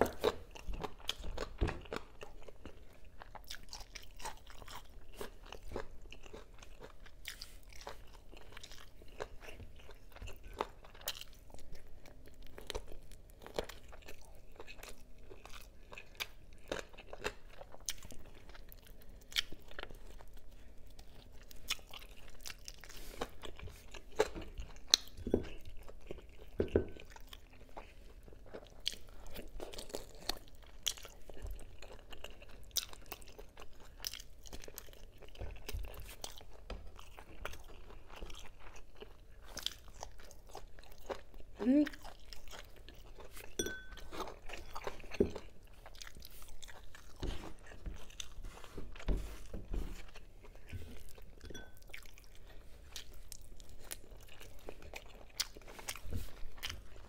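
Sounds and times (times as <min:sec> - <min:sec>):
person chewing and biting: 0:00.0 - 0:57.0.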